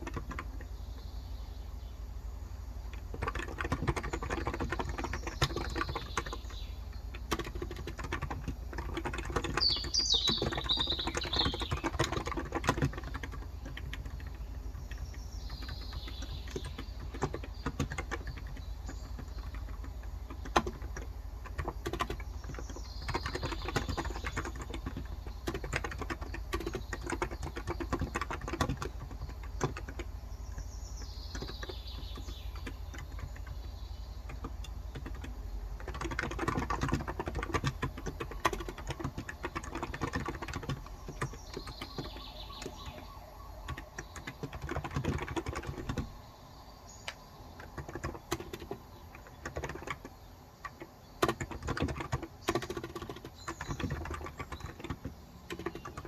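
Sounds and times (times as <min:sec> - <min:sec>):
fast keyboard typing: 0:00.0 - 0:00.8, 0:02.8 - 0:46.2, 0:47.1 - 0:56.0
low steady hum: 0:00.0 - 0:56.0.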